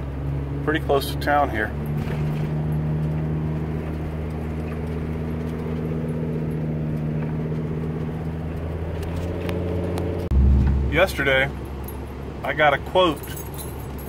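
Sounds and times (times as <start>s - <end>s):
engine drone: 0.0s - 14.0s
road noise: 0.0s - 14.0s.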